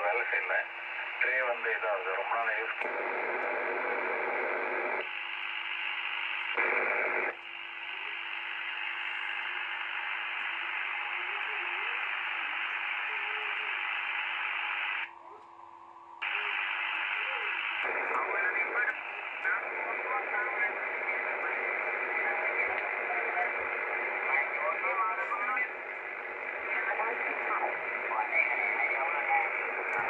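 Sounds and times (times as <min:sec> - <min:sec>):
radio receiver hiss: 0:00.0 - 0:15.1, 0:16.2 - 0:30.0
faint wavering radio signals: 0:00.0 - 0:30.0.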